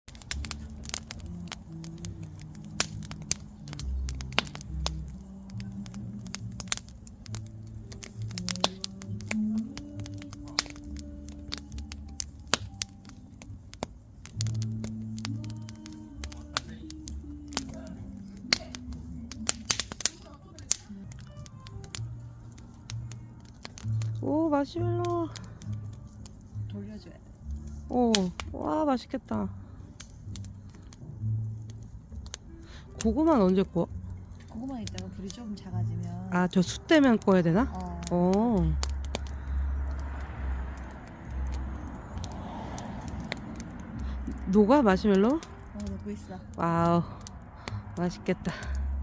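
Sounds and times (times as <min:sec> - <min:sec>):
campfire crackling: 0:00.0 - 0:49.0
soft background music: 0:00.1 - 0:49.0.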